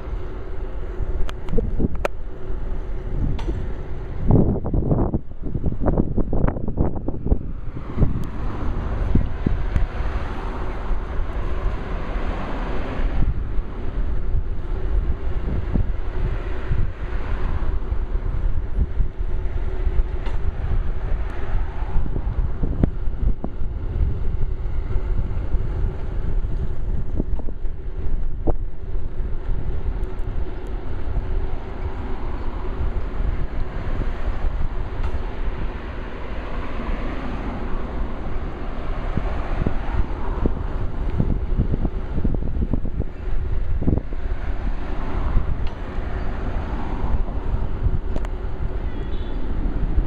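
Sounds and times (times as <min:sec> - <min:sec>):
wind rumble on microphone: 0:00.0 - 0:50.0.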